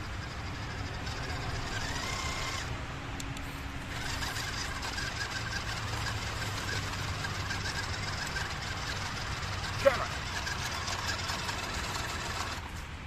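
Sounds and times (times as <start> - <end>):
toy truck motor whining: 0.0 - 2.8, 3.8 - 12.8.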